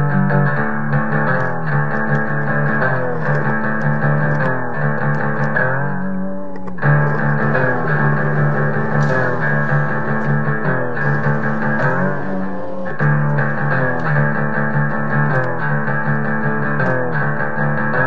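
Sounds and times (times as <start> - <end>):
music with sliding pitched notes: 0.0 - 18.0.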